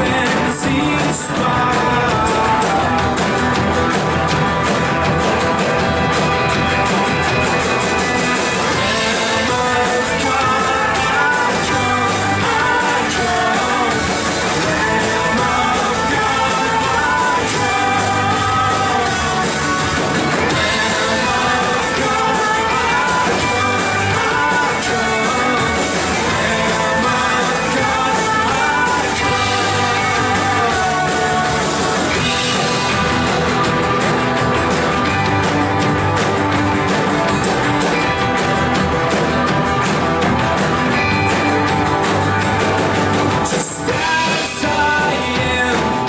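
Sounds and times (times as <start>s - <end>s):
person singing lead vocals: 0.0s - 5.9s, 7.9s - 35.8s, 40.9s - 46.0s
rock band playing: 0.0s - 46.0s.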